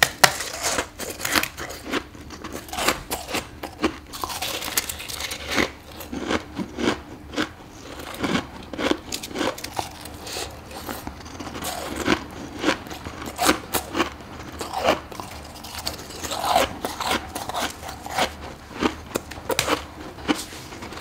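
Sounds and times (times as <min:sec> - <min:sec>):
crunchy bites into frost: 0:00.0 - 0:20.4.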